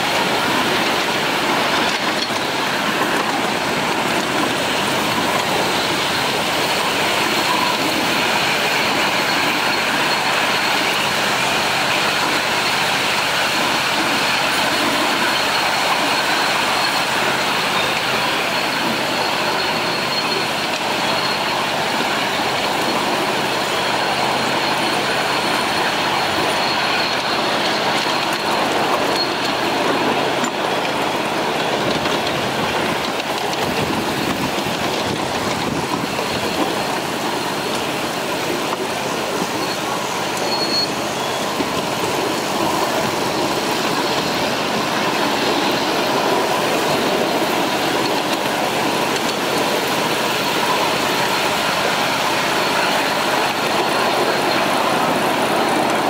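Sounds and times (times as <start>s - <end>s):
small train wheels rattling on rails: 0.0s - 56.0s.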